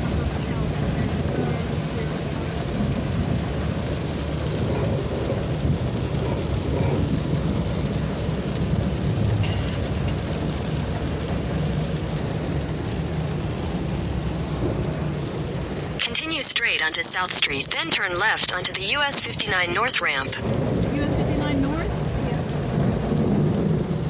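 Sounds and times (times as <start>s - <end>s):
road noise inside car: 0.0s - 16.6s, 19.8s - 24.0s
rain on a moving car: 0.0s - 24.0s.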